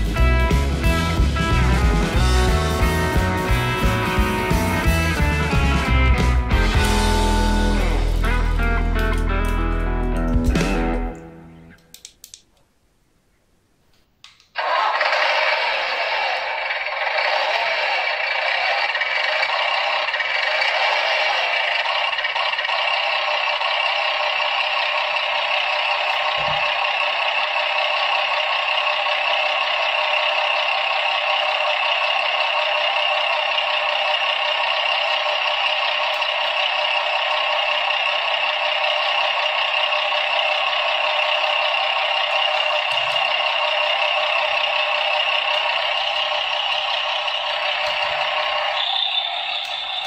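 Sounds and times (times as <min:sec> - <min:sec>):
tinny recorded truck engine idling: 0:00.0 - 0:10.3, 0:14.6 - 0:50.0.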